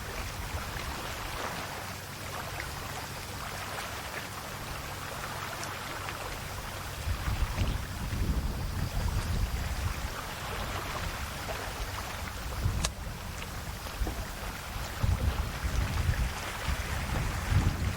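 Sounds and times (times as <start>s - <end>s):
sea waves washing on shore: 0.0s - 17.9s.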